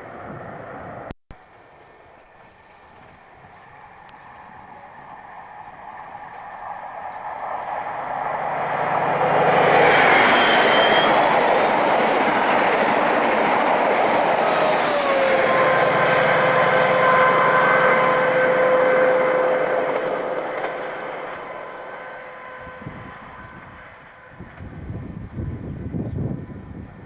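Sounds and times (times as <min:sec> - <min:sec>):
diesel train passing at speed: 0:00.0 - 0:27.0.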